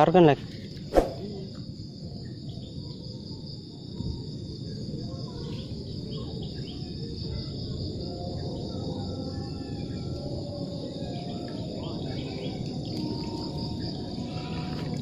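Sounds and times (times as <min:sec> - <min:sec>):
insect chorus chirring: 0:00.0 - 0:15.0.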